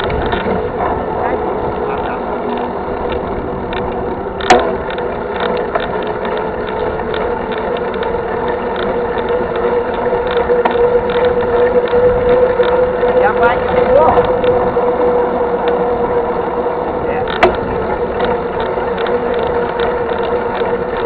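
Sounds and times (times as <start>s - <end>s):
bicycle frame rattling: 0.0s - 21.0s
bicycle freewheel ratchet buzzing: 0.0s - 21.0s.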